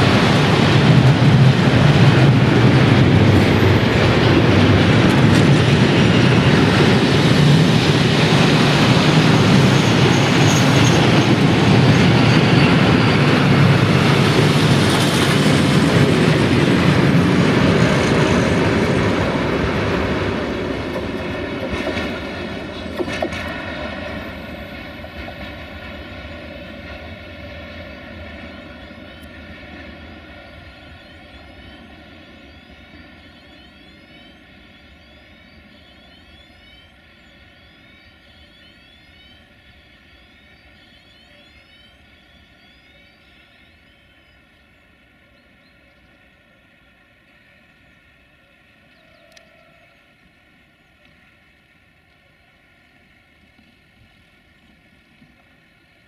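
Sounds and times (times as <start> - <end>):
freight train rolling: 0.0 - 56.0.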